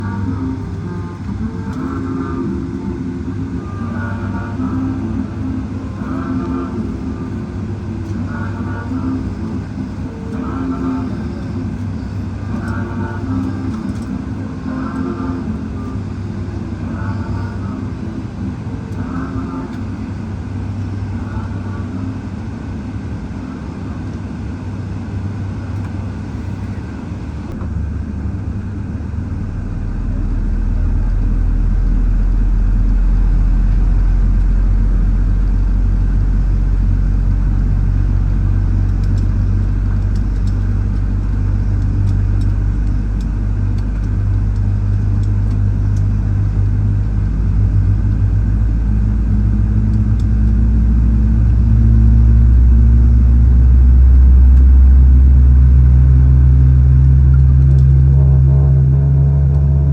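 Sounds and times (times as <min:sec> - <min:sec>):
aircraft engine hum and rumble: 0:00.0 - 0:59.9.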